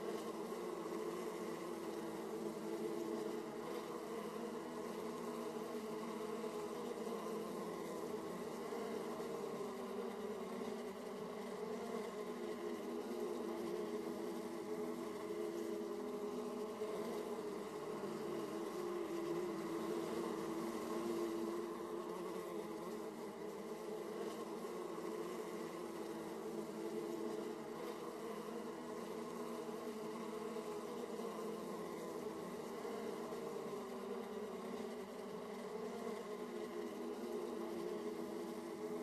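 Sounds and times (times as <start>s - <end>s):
honey bees buzzing: 0.0s - 39.0s.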